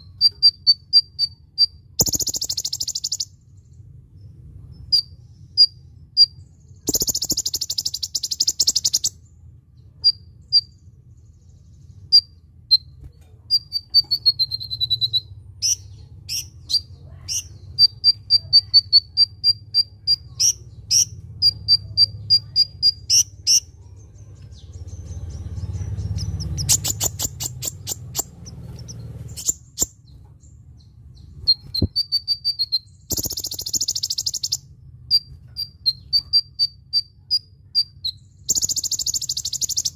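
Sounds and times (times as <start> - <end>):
sunbird chips and trills: 0.0 - 39.9.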